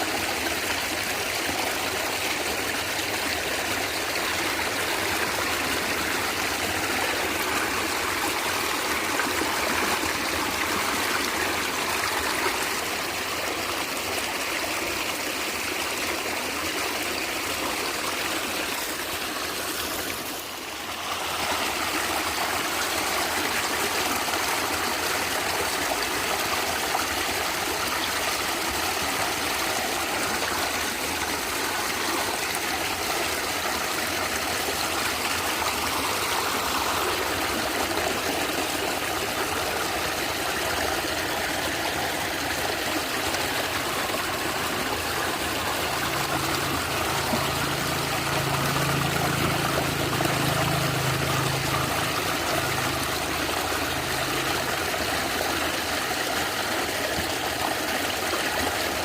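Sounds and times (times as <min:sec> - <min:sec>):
stream gurgling: 0:00.0 - 0:59.0.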